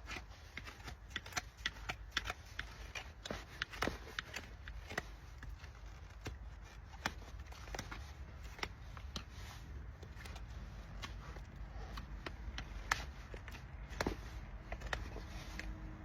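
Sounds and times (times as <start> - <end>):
tools clipping hoof horn: 0.0 - 16.0.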